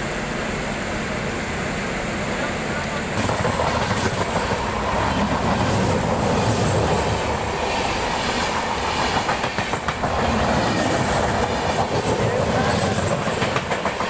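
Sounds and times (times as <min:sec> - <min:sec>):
train wheels rumbling and rattling: 0:02.2 - 0:14.0.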